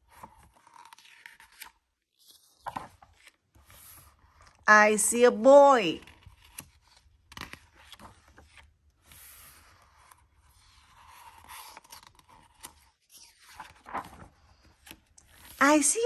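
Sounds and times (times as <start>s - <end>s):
paper page rustling: 0.0s - 4.6s, 6.0s - 15.6s.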